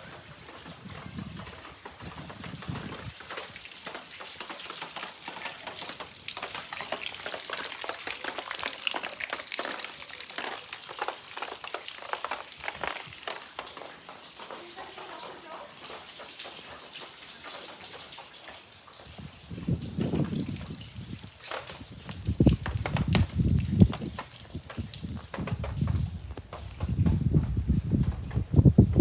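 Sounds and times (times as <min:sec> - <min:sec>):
rain pattering and dripping: 0:00.0 - 0:29.0.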